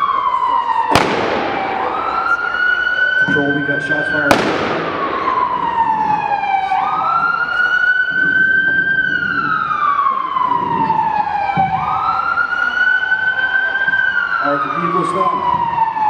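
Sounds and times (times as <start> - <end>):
police siren wailing: 0.0 - 16.0.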